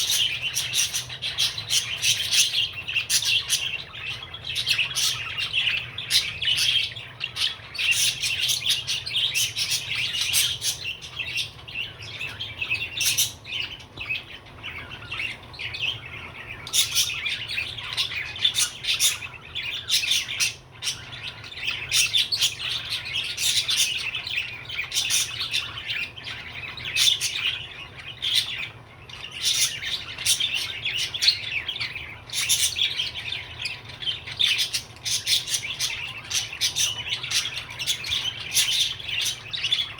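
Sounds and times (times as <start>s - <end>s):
budgerigar chattering: 0.0s - 39.9s.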